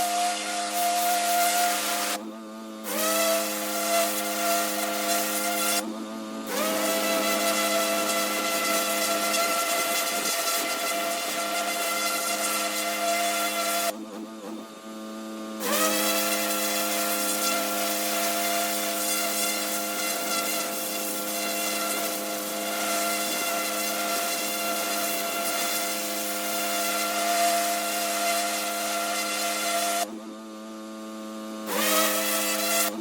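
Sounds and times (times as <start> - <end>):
water jet hissing on brick: 0.0 - 2.2, 2.9 - 5.8, 6.5 - 13.9, 15.6 - 30.1
pressure washer humming: 0.0 - 14.0, 14.7 - 33.0.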